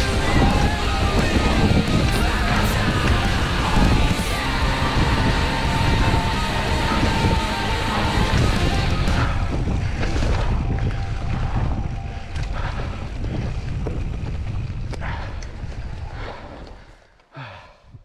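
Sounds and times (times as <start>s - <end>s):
bike rattling on rough trail: 0.0s - 17.3s
wind buffeting microphone: 0.0s - 18.0s.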